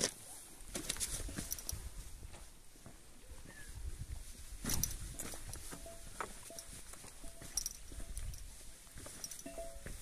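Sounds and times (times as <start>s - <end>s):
footsteps on loose rocks: 0.0s - 10.0s.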